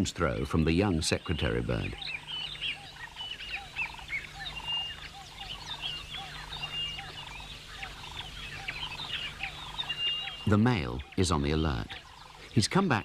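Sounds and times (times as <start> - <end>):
faint steady low hum: 0.0 - 13.0
many birds chirping: 0.0 - 13.0
lower bird call repeated: 1.8 - 13.0.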